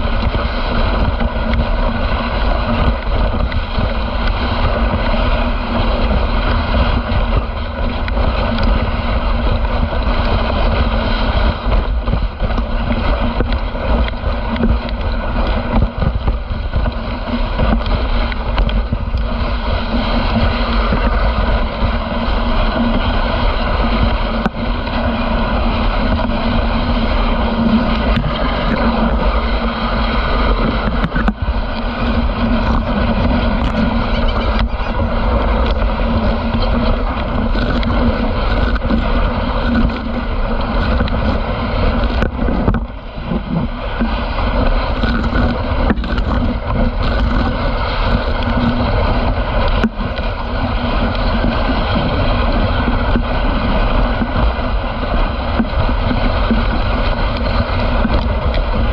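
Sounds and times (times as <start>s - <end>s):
sled runners hissing over snow: 0.0s - 58.9s
wind on microphone: 0.0s - 58.9s.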